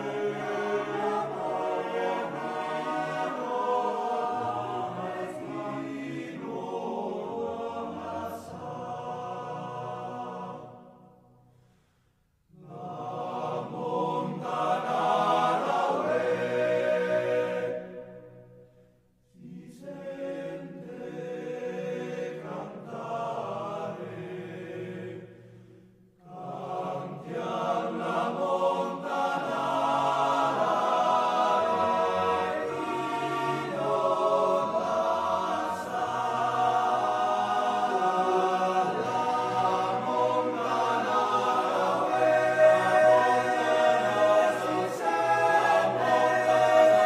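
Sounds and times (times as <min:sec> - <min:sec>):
choir-like voices holding chords: 0:00.0 - 0:11.7, 0:12.4 - 0:47.0.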